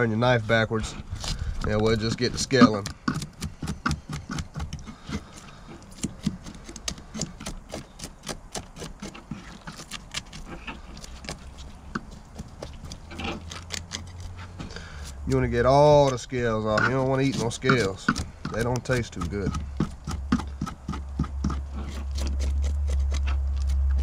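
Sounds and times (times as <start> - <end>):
knife scraping fish scales: 1.1 - 24.0.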